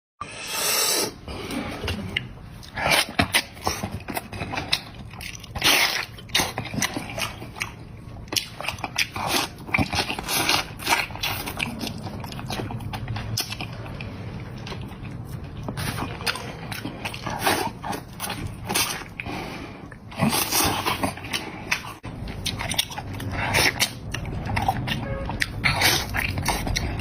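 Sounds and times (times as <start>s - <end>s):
crunchy bites and chewing: 2.0s - 27.0s.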